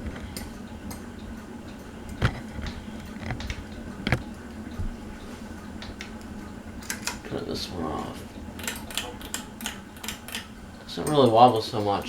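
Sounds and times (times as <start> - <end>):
ceiling fan humming: 0.0 - 12.0
fan ticks and clicks: 0.0 - 12.0.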